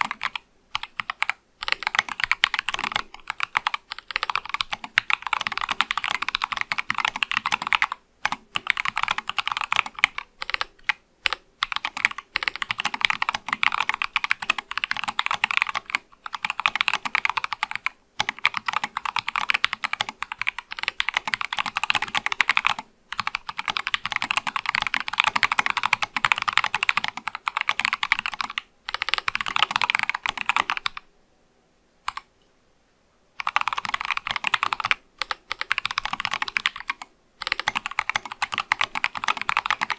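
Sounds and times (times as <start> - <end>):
fast typing on mechanical keyboard: 0.0 - 31.0, 33.4 - 39.9.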